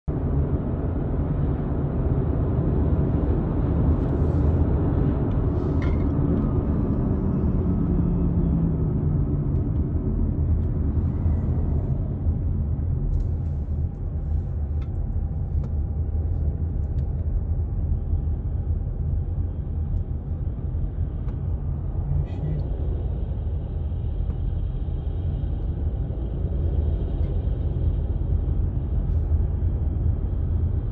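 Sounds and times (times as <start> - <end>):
car cabin road rumble: 0.0 - 30.9.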